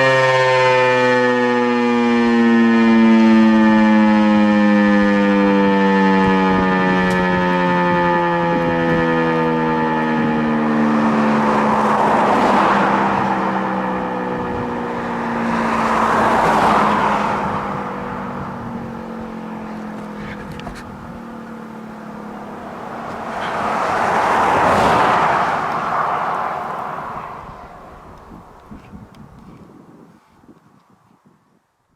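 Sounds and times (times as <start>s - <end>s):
warning siren winding down: 0.0s - 28.6s
cars passing: 0.0s - 29.2s.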